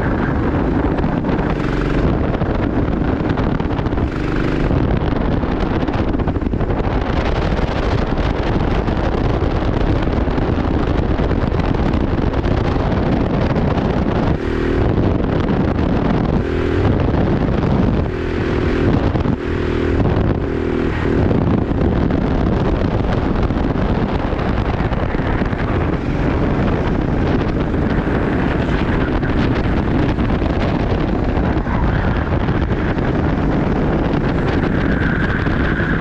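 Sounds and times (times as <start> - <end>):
go-kart engine racing: 0.0 - 36.0
wind noise on microphone: 0.0 - 36.0.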